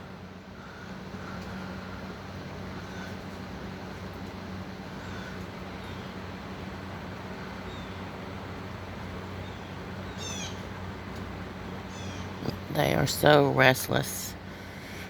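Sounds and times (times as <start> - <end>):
low even hum: 0.0 - 15.0.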